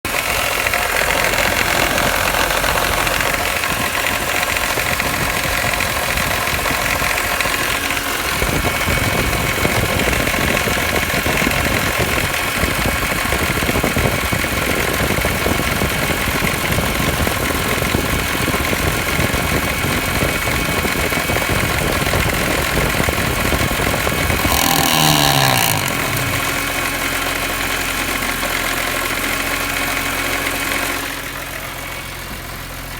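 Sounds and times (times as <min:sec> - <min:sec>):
car engine running: 0:00.0 - 0:32.9.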